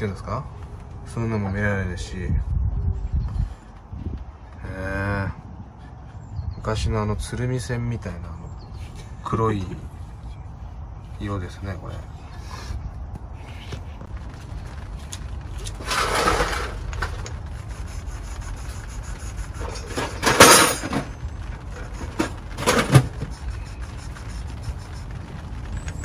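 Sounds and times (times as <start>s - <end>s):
low background rumble: 0.0s - 26.0s.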